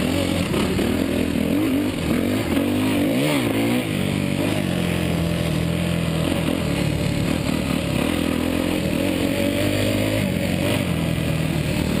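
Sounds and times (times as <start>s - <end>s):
motocross bike engine: 0.0s - 12.0s.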